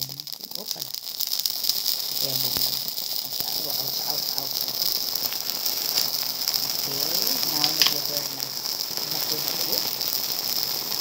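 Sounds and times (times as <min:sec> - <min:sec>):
noodles burning in flame: 0:00.0 - 0:11.0.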